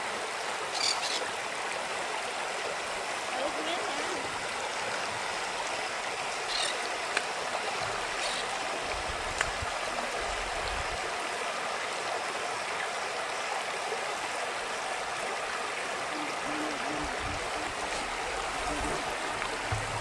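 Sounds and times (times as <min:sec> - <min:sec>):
creek water running: 0:00.0 - 0:20.0.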